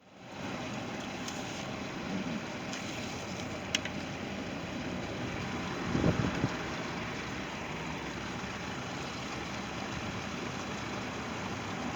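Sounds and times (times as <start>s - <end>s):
boat engine idling: 0.1s - 11.9s.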